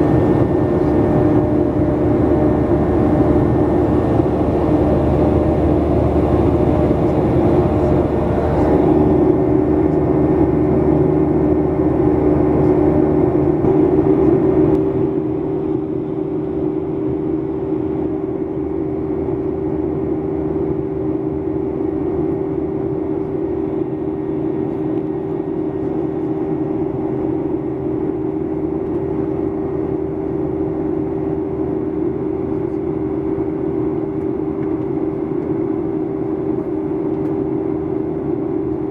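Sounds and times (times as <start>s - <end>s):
jet cabin engine drone: 0.0s - 38.9s.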